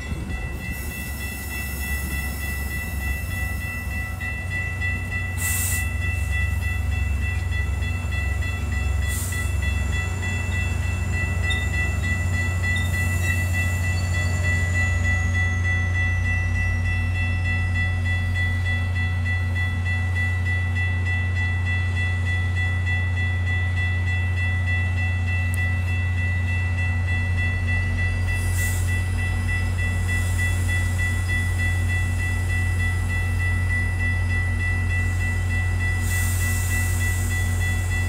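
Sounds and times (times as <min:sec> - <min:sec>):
train equipment hum: 0:00.0 - 0:38.0.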